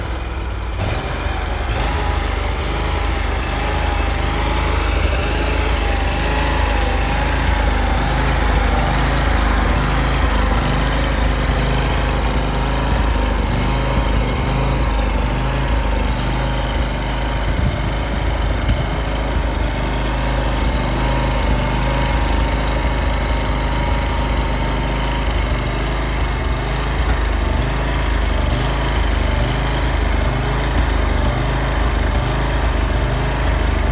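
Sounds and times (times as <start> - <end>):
stump grinder engine running: 0.0 - 33.9.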